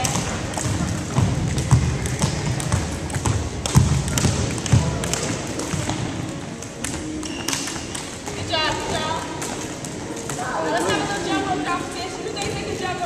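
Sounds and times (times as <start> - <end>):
jump rope slapping wooden floor: 0.0 - 11.4.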